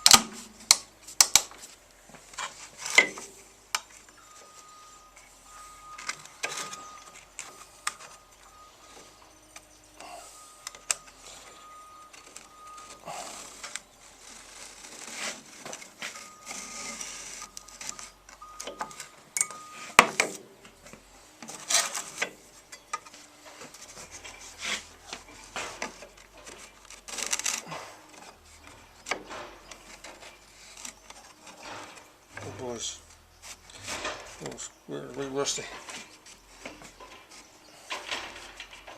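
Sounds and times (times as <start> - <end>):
faint thin whine: 0.0 - 38.9
knocks and clicks of tools: 0.0 - 38.9
wood scraping and rubbing: 0.0 - 38.9.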